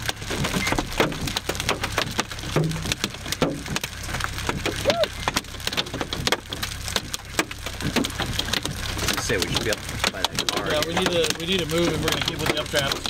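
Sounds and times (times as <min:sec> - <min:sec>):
hailstones hitting a vehicle: 0:00.0 - 0:13.0.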